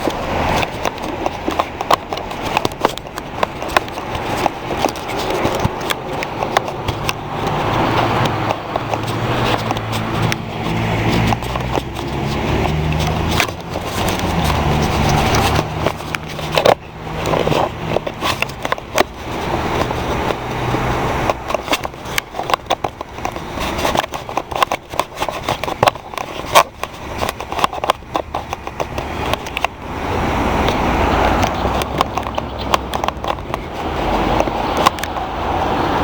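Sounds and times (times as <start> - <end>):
short crackles and knocks: 0.0 - 29.8, 30.6 - 35.3
rough outdoor noise: 0.0 - 36.0
vehicle engine running: 0.0 - 36.0.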